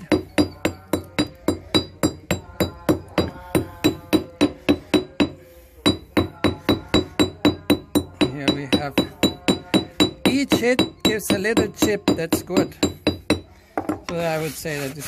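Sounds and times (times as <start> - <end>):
hammer striking stone: 0.0 - 14.0.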